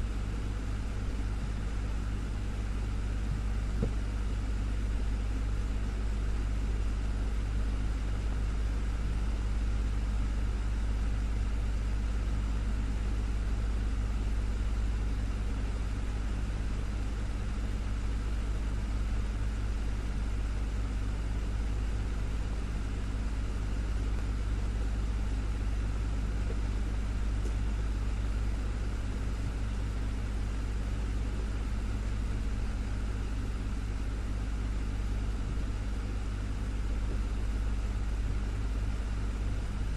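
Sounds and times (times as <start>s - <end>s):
desktop fan running: 0.0s - 39.9s.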